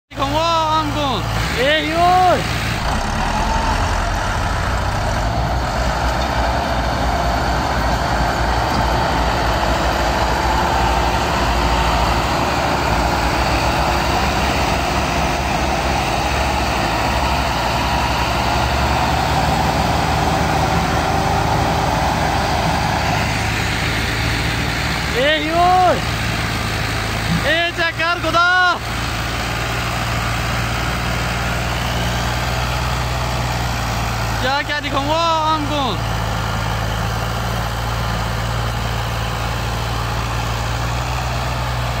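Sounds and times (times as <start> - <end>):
tractor diesel engines under load: 0.1 - 42.0.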